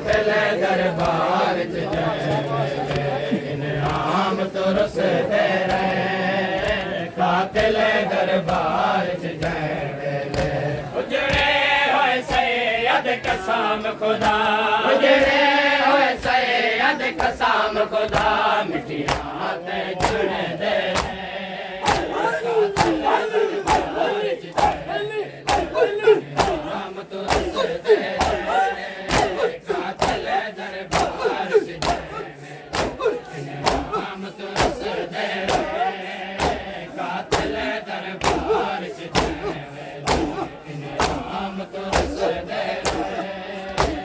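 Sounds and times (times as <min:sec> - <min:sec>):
hands slapping chests: 0:00.0 - 0:11.6, 0:12.2 - 0:44.0
men chanting in unison: 0:00.0 - 0:44.0.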